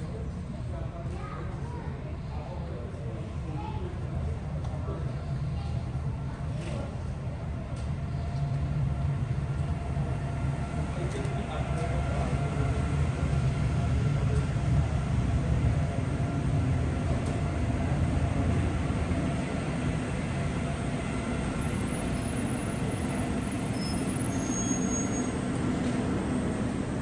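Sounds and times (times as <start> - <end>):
light rail train rumbling: 0.0 - 27.0.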